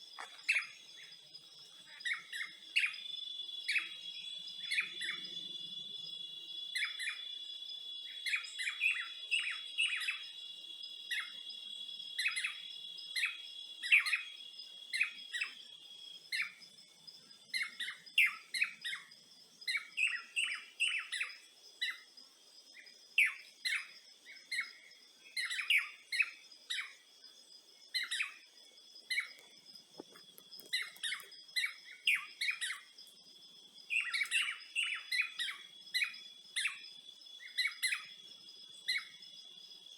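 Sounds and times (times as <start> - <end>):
birds chirping: 0.0 - 16.7, 17.4 - 27.1, 27.8 - 33.1, 33.8 - 39.2
high-pitched insect trill: 0.0 - 39.9.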